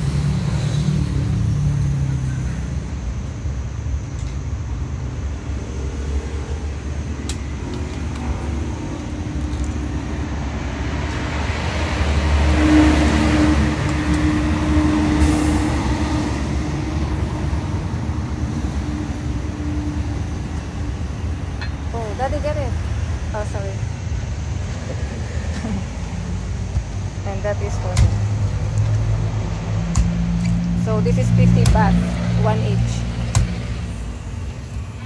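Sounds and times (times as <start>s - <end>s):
road traffic rumble: 0.0s - 35.0s
vehicle passing: 4.8s - 35.0s.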